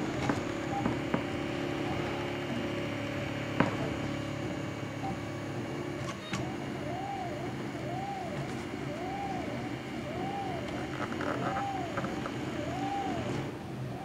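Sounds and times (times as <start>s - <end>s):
stepper motors whining: 0.0s - 14.0s
three-d printer humming: 0.0s - 14.0s.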